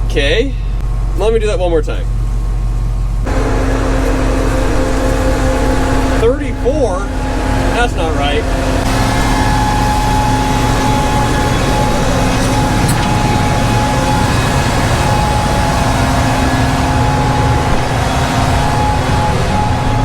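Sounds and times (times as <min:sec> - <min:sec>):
combine harvester engine drone: 0:00.0 - 0:20.0
thin high whine: 0:00.0 - 0:20.0.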